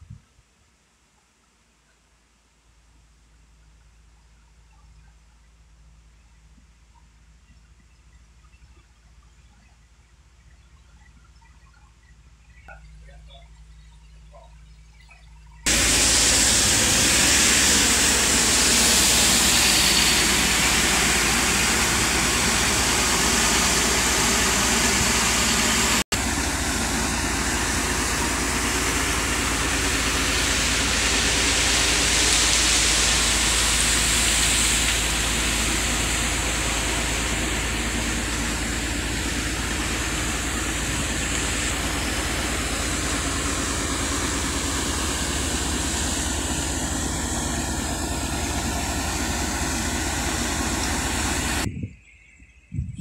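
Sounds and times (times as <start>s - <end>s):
dredger machinery droning: 4.4s - 51.9s.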